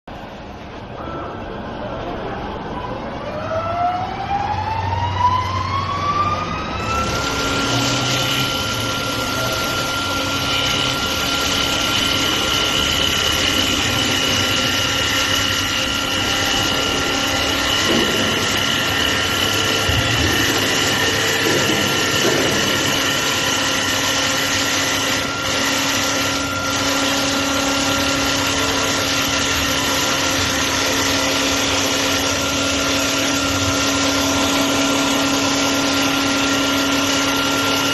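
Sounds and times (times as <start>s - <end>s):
constant machine noise: 0.1s - 37.9s
lathe motor whine: 2.3s - 37.9s.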